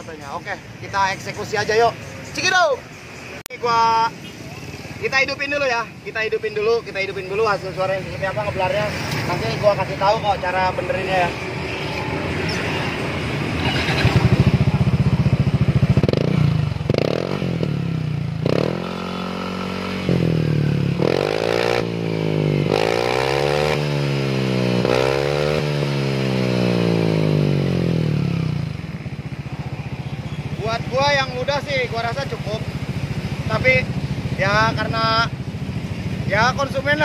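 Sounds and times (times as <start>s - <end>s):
scooter engine revving: 7.1s - 37.0s.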